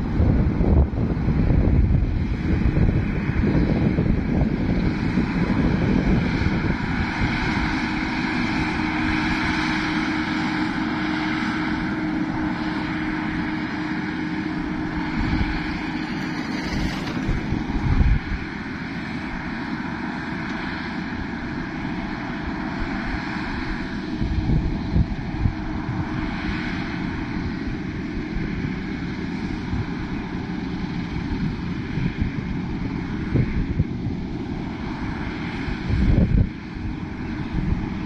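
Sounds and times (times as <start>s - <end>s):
combine harvester droning: 0.0s - 38.0s
wind buffeting microphone: 0.0s - 38.0s.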